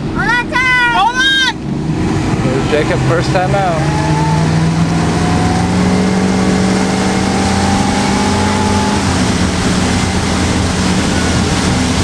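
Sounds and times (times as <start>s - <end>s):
motorboat engine running: 0.0s - 12.0s
wind and water rushing: 0.0s - 12.0s.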